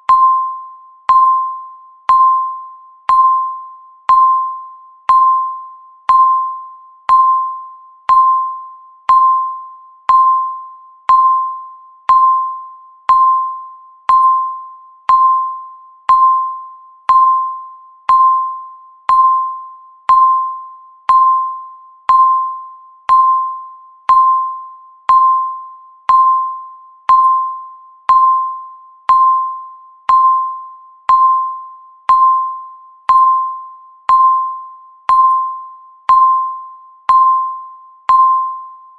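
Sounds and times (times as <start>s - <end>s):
countdown timer beeps: 0.0s - 38.9s.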